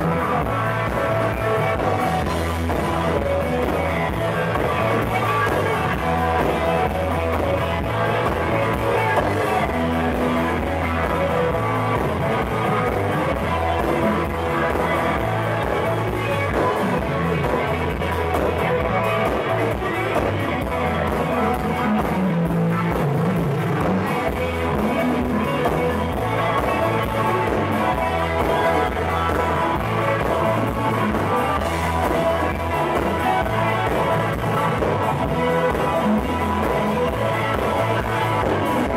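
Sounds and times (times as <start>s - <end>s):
blues-rock band playing: 0.0s - 38.9s.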